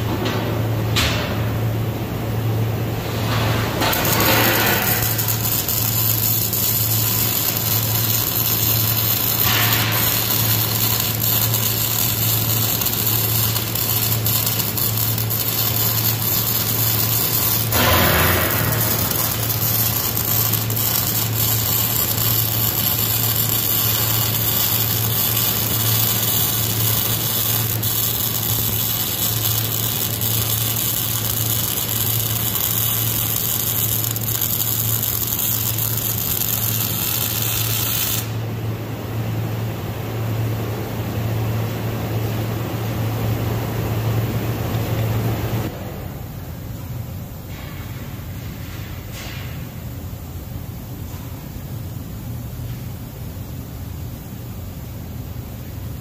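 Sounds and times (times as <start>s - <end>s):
welding arc crackling sizzle: 0.0s - 45.8s.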